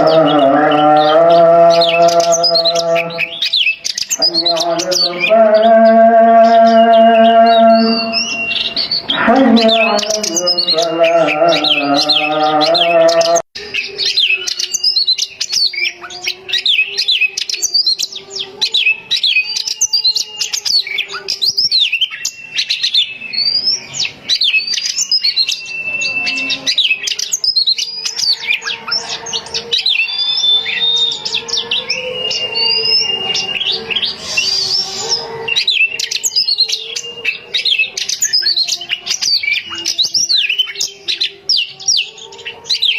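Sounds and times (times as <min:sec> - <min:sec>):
bird singing whistles and trills: 0:00.0 - 0:42.9.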